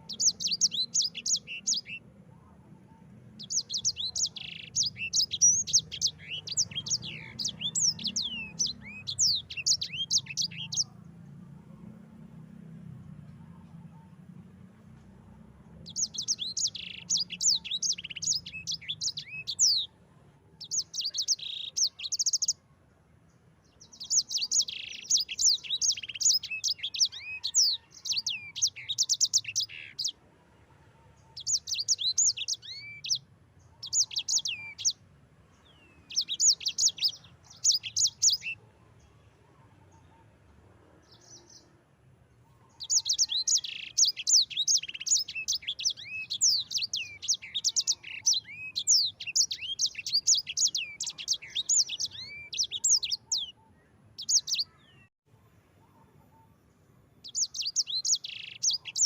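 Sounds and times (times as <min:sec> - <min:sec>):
songbird singing rolling phrases: 0:00.0 - 0:11.4, 0:14.8 - 0:30.2, 0:31.2 - 0:39.2, 0:41.0 - 0:41.8, 0:42.4 - 0:55.1, 0:57.1 - 0:59.0.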